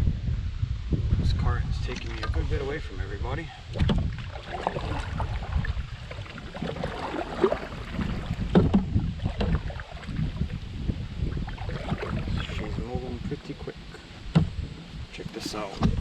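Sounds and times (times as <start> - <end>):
wind on microphone: 0.0 - 16.0
water lapping against hull: 1.8 - 16.0.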